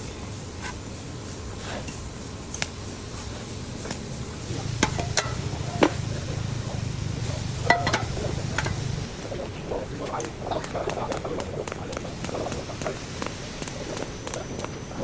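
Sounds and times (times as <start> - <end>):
welding arc hum: 0.0 - 15.0.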